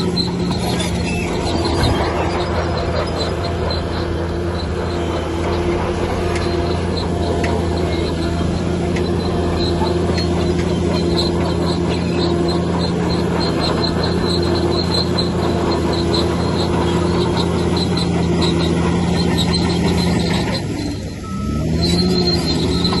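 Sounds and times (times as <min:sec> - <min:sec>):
diesel bulldozer engine revving: 0:00.0 - 0:23.0
tracks squeaking: 0:00.0 - 0:23.0.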